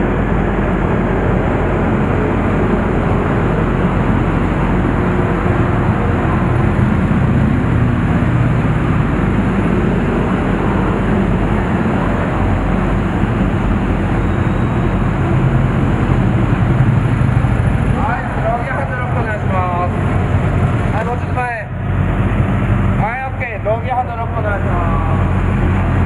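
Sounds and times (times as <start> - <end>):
motorcycle engine low rumble: 0.0 - 26.0
other motorcycles running: 0.0 - 26.0.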